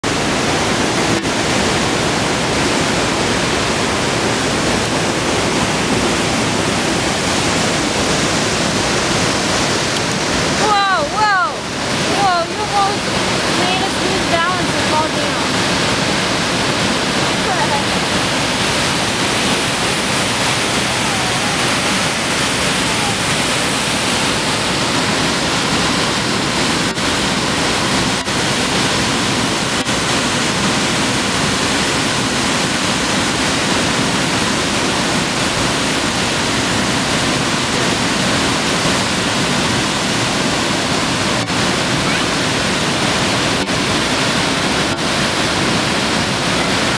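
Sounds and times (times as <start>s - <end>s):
waterfall rushing water: 0.0s - 46.9s.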